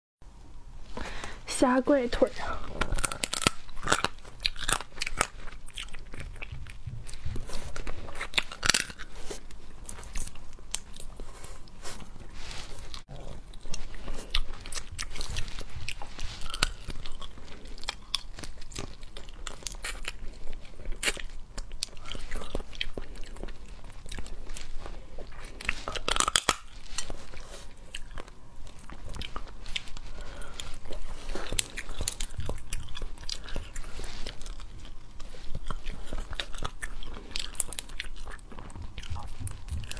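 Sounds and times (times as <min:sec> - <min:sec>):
chewing: 0:02.2 - 0:39.9
crab shells crunching: 0:02.6 - 0:11.7, 0:12.7 - 0:39.9.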